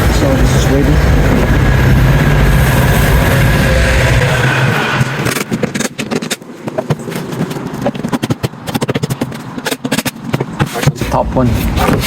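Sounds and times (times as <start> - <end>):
wood scraping on wood: 1.2 - 12.0.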